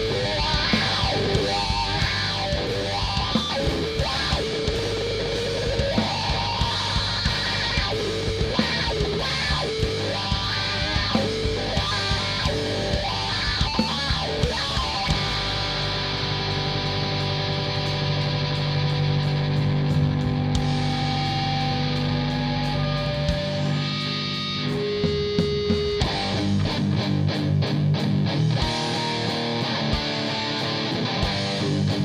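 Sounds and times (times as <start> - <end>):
rock band playing instrumental: 0.0 - 32.0.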